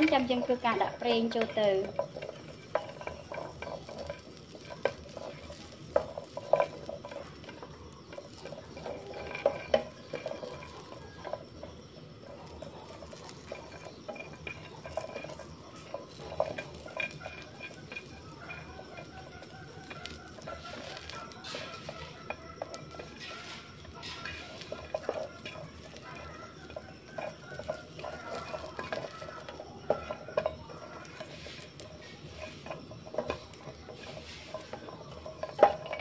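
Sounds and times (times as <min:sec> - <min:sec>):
spatula stirring in frying pan: 0:00.0 - 0:36.0.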